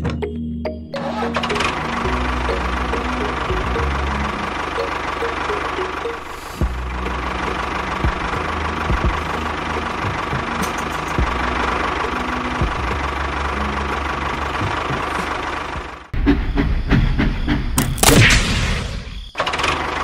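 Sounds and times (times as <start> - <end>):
tractor engine idling: 1.0 - 18.1, 19.4 - 20.0.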